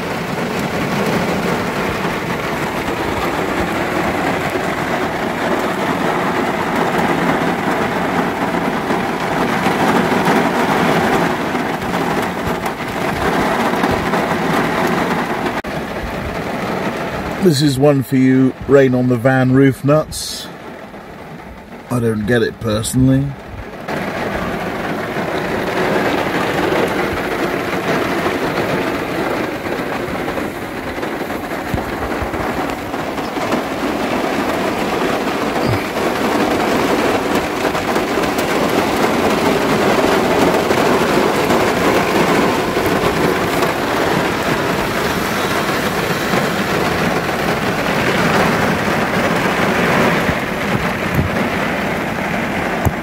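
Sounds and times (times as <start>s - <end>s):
heavy rain on metal roof: 0.0s - 53.0s.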